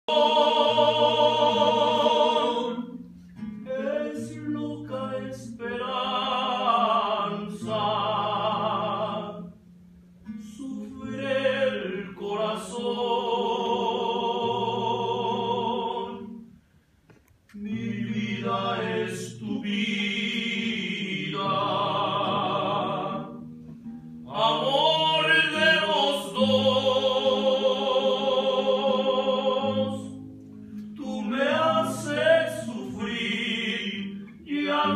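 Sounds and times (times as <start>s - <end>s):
voices singing with vibrato: 0.0s - 3.0s, 3.7s - 9.6s, 10.5s - 16.5s, 17.6s - 23.4s, 24.3s - 30.2s, 31.0s - 34.9s.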